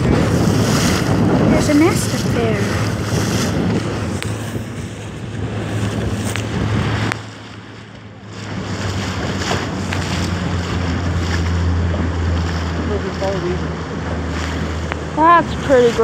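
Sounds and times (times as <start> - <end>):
motorboat engine hum: 0.0 - 16.0
water rushing past: 0.0 - 16.0
wind buffeting microphone: 0.0 - 16.0.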